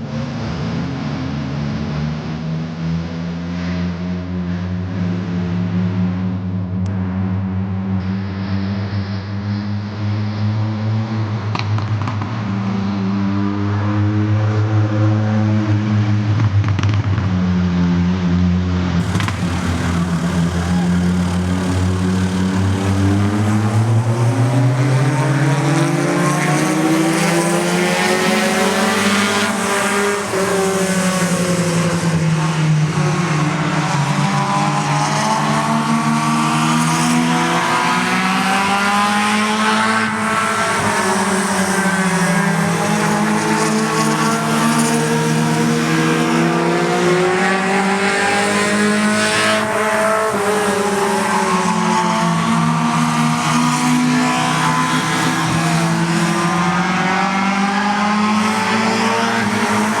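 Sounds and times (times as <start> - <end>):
race car engines: 0.0 - 60.0.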